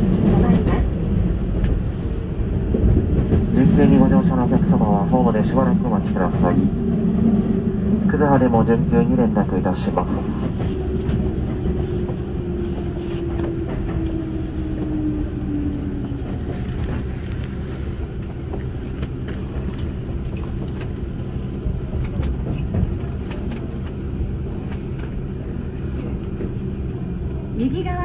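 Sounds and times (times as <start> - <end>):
train running rumble: 0.0 - 28.0.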